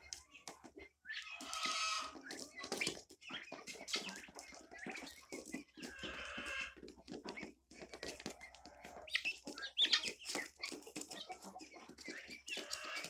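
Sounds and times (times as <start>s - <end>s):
poultry calling harshly: 0.1s - 7.4s, 8.0s - 13.0s.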